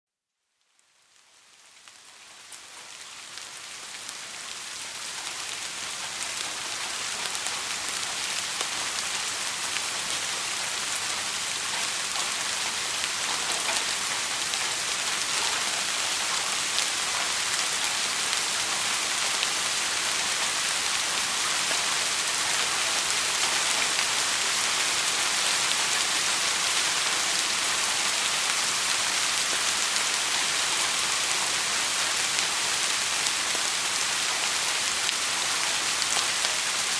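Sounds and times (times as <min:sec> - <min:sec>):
steady rainfall: 0:00.6 - 0:36.9.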